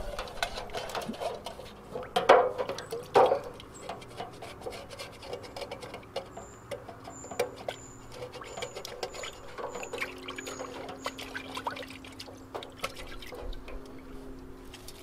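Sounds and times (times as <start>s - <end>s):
water sloshing in a metal pot: 0.0s - 14.1s.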